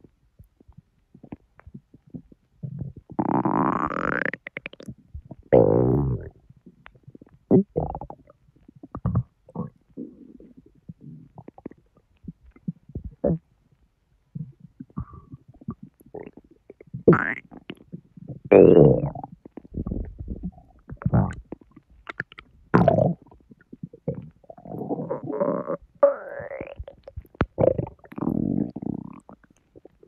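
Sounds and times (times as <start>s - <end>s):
stomach gurgling and rumbling: 0.0s - 30.0s.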